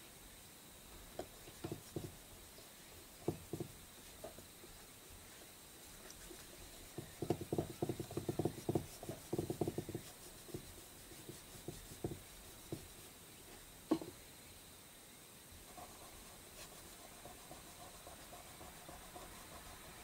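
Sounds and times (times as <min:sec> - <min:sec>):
scratchy drawing strokes on paper: 0:01.2 - 0:13.7, 0:15.6 - 0:20.0.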